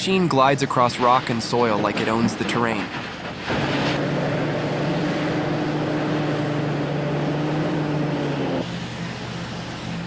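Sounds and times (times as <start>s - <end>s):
heavy machinery engine droning: 0.0s - 10.0s.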